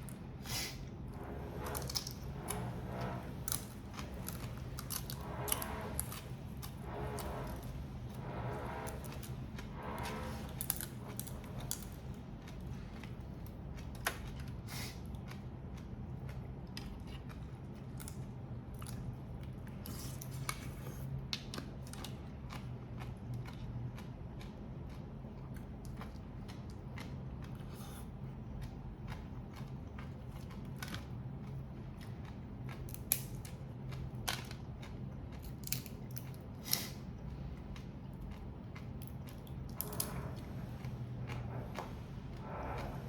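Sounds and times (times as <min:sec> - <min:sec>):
chewing: 0:01.1 - 0:43.0.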